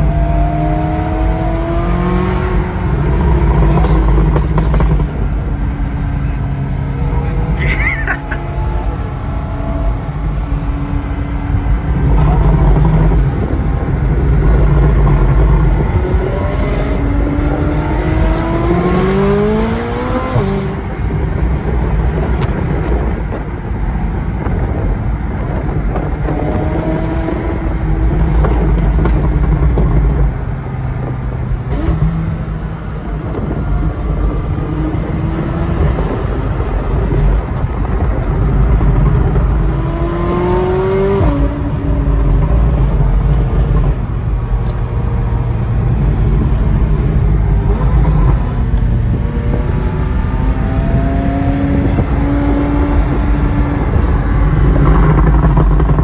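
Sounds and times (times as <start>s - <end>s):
car engine revving under load: 0.0s - 56.0s
low road rumble: 0.0s - 56.0s.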